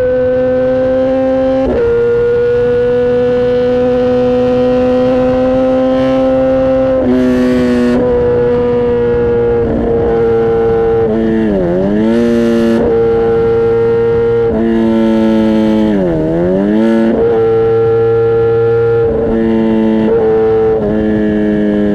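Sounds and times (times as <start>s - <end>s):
motorcycle engine at high revs: 0.0s - 21.9s.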